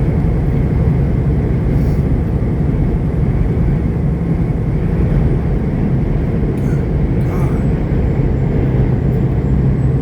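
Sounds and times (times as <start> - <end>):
road noise: 0.0 - 10.0
truck diesel engine drone: 0.0 - 10.0.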